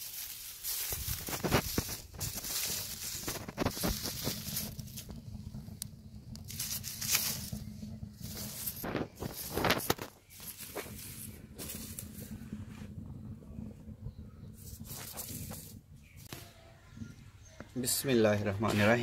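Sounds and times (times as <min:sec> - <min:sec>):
straw stalks rustling: 0:00.0 - 0:13.1, 0:14.4 - 0:17.0
straw fire crackling: 0:00.0 - 0:19.0.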